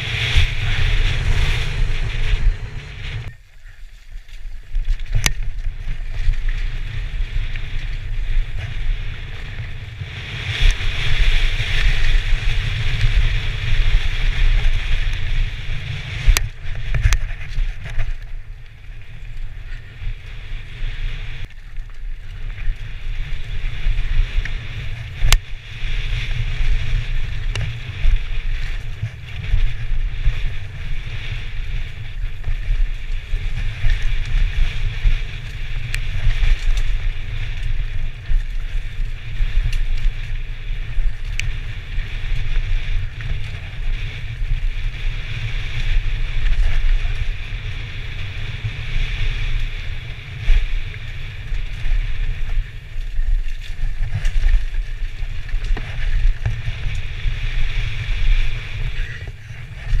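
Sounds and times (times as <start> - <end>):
bike knocking and rattling: 0.0 - 60.0
wind buffeting microphone: 0.0 - 60.0.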